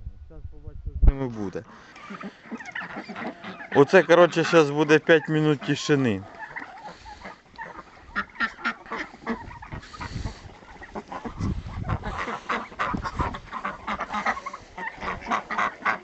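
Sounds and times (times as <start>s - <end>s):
ducks and geese calling: 1.4s - 16.0s.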